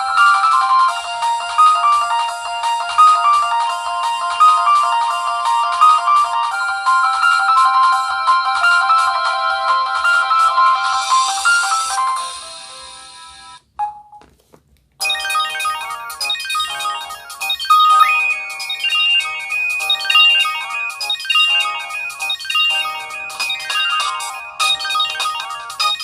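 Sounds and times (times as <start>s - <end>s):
phone ringtone melody: 0.0s - 14.2s, 15.0s - 26.0s.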